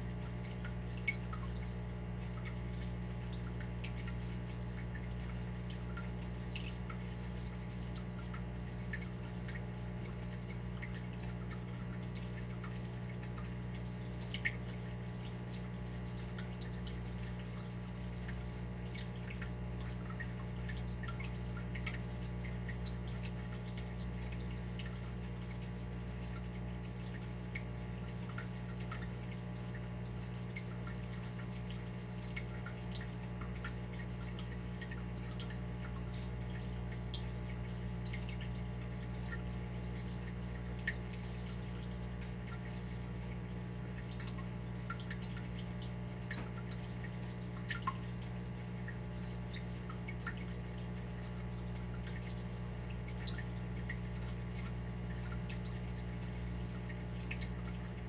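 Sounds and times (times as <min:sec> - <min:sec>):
water dripping: 0:00.0 - 0:58.0.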